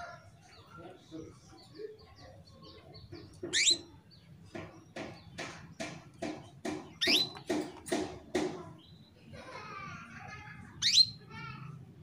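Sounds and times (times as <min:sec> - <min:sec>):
canary chirping: 0:00.0 - 0:09.2, 0:10.8 - 0:11.4.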